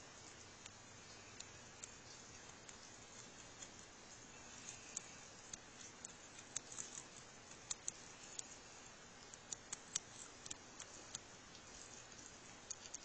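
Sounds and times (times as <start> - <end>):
small animal chewing with clicks: 0.0 - 13.0.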